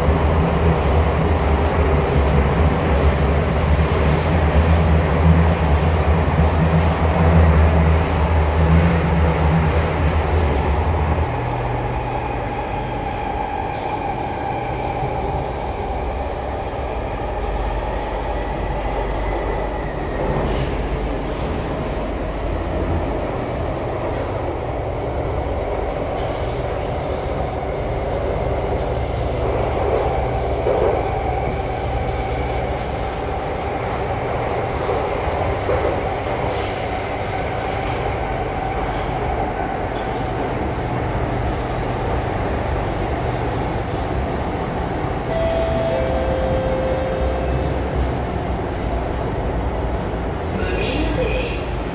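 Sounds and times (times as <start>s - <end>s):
rumble of wheels on rail: 0.0s - 51.9s.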